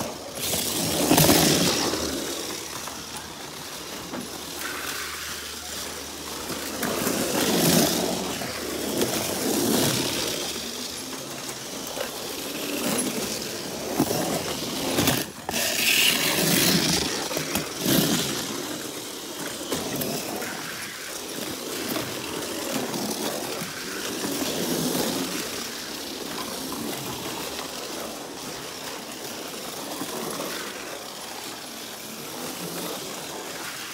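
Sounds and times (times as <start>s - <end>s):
toy cars buzzing and rattling: 0.0s - 33.9s.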